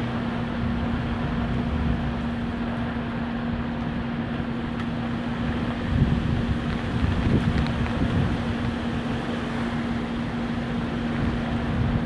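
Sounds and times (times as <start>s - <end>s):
deep rumble: 0.0s - 10.1s
heavy rain: 0.0s - 12.0s
wind gusting through trees: 0.0s - 12.0s.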